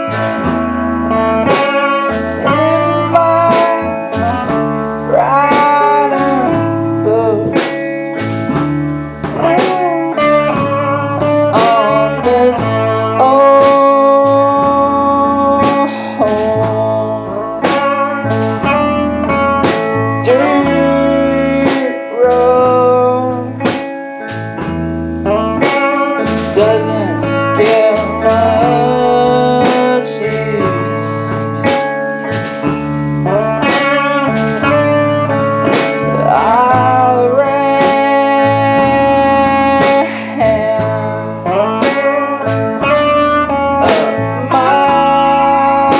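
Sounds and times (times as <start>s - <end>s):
drum hits: 0.0s - 6.7s, 7.5s - 14.8s, 17.6s - 20.7s, 23.6s - 39.0s, 39.7s - 45.9s
bass line: 0.0s - 45.9s
electric guitar with bent notes: 0.0s - 45.9s.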